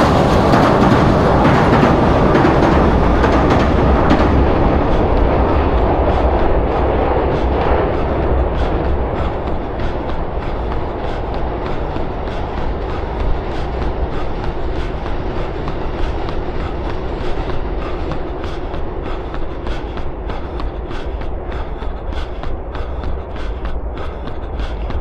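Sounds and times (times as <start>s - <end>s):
running footsteps on pavement: 0.0s - 25.0s
steady low rumble: 0.0s - 25.0s.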